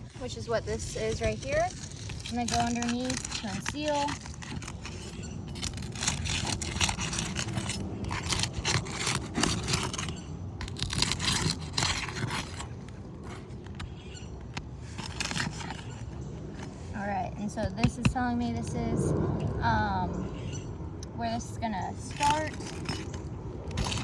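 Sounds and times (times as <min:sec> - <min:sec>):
metal bar scraping under shingles: 0:00.0 - 0:18.6, 0:21.2 - 0:24.0.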